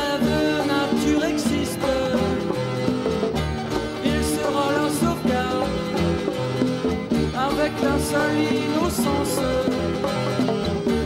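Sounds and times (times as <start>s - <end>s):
bass guitar: 0.0s - 11.0s
bending lead guitar notes: 0.0s - 11.0s
drums: 0.0s - 11.0s
guitars playing: 0.0s - 11.0s.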